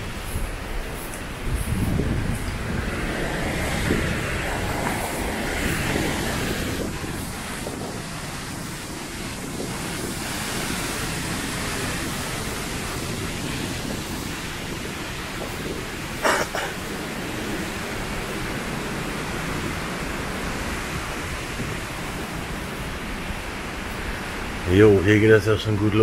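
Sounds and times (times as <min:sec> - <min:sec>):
wind blowing across microphone: 0:00.0 - 0:26.0.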